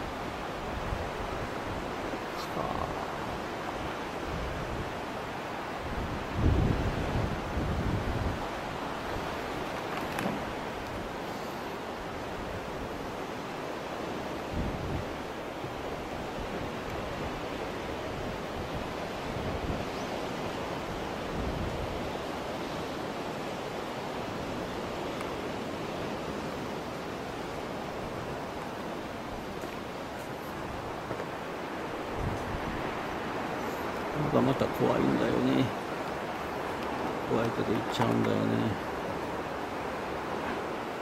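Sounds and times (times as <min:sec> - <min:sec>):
surf: 0:00.0 - 0:41.0
wind buffeting microphone: 0:00.0 - 0:41.0.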